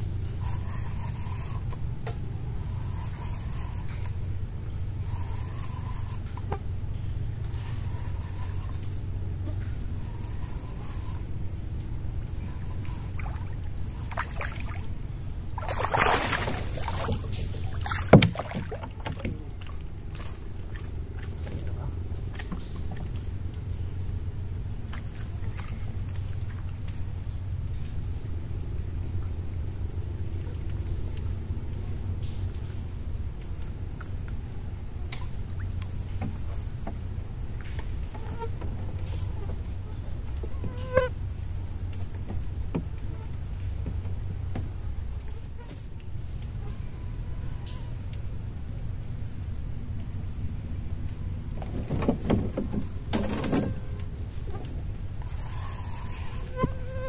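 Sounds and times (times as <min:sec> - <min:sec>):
night insects chirring: 0:00.0 - 0:57.0.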